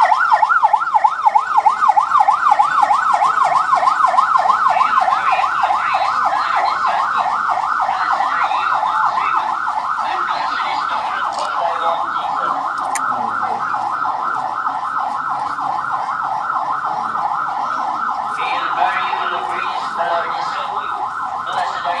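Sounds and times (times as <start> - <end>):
electronic siren yelping: 0.0 - 22.0.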